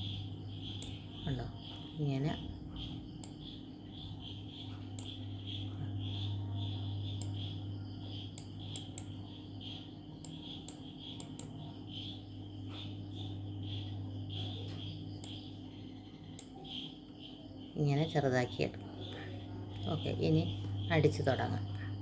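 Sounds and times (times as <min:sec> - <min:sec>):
crickets chirping: 0:00.0 - 0:22.0
low hum: 0:00.0 - 0:22.0.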